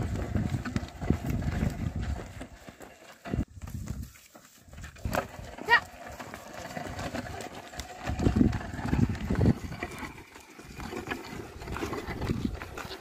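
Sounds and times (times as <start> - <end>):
hooves treading: 0.0 - 13.0
plough scraping through earth: 0.0 - 13.0.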